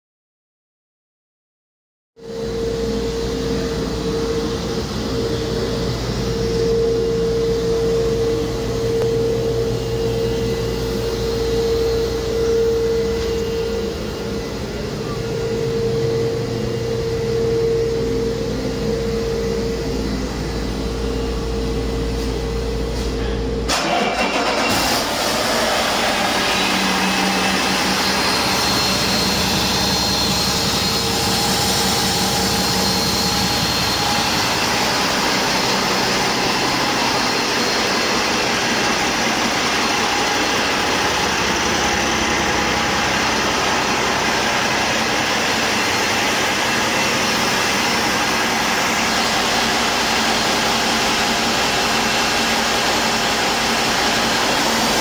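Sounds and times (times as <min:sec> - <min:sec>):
diesel engine running: 0:02.2 - 0:55.0
high whine: 0:02.2 - 0:55.0.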